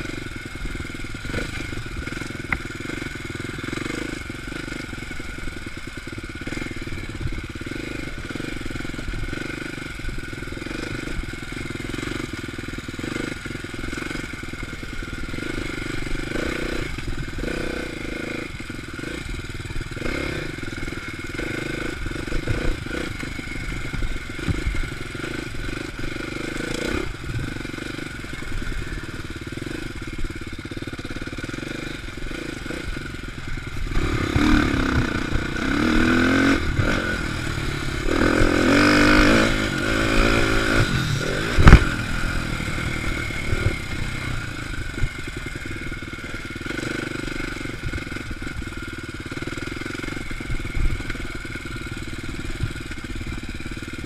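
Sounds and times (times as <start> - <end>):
bike knocking and rattling: 0.0 - 54.0
dirt bike engine running: 0.0 - 54.0.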